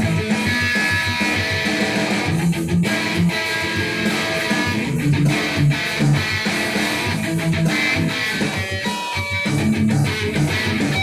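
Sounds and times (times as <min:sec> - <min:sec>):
electric guitar riff: 0:00.0 - 0:11.0.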